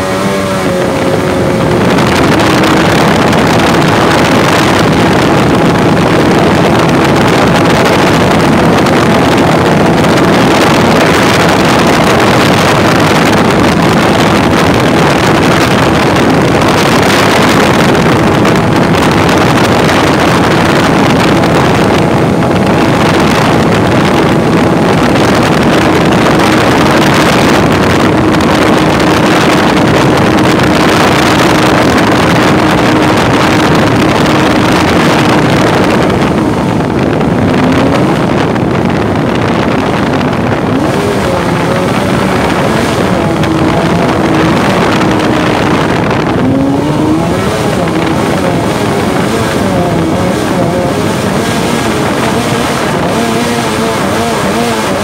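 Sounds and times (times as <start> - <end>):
boat engine drone: 0.0 - 55.0
rushing water: 0.0 - 55.0
wind on microphone: 0.0 - 55.0.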